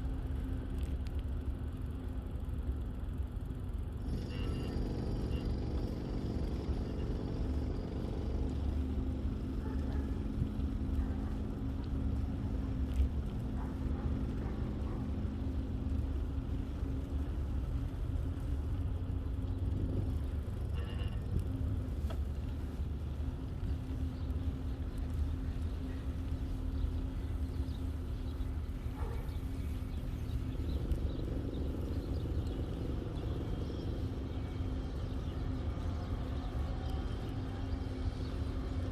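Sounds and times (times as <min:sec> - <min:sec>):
bicycle tyre noise: 0:00.0 - 0:38.9
low hum: 0:00.0 - 0:38.9.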